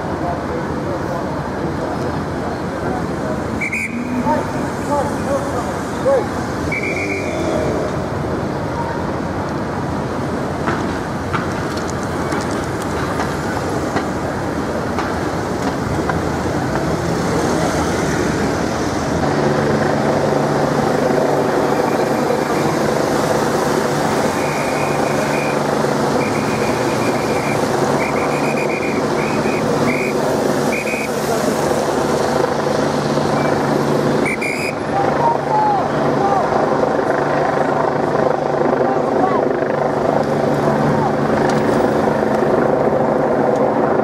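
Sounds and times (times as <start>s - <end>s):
traffic and tyre hiss on wet road: 0.0s - 38.2s, 39.0s - 44.0s.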